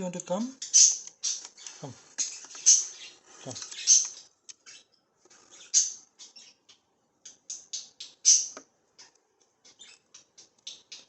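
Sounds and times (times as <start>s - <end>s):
budgerigars chirping and squawking: 0.3s - 11.0s.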